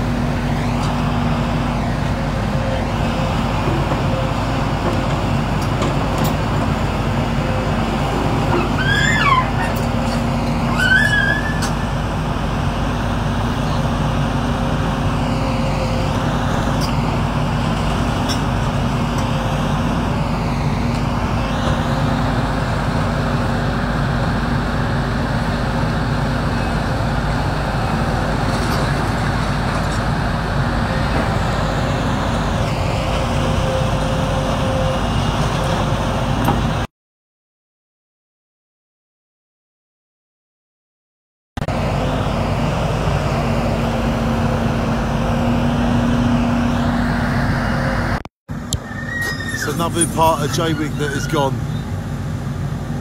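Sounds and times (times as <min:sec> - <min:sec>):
excavator diesel engine and hydraulics: 0:00.0 - 0:36.9, 0:41.6 - 0:53.0.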